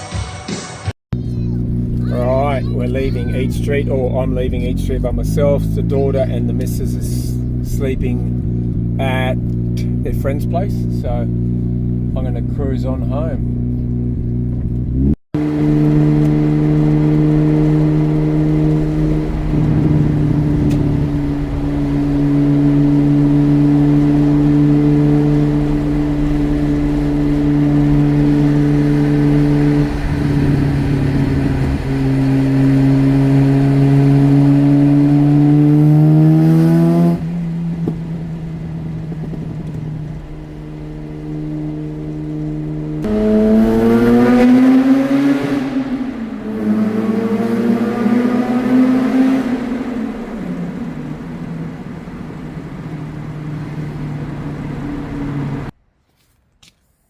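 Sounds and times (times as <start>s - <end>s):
rotary car engine revving: 1.1s - 55.8s.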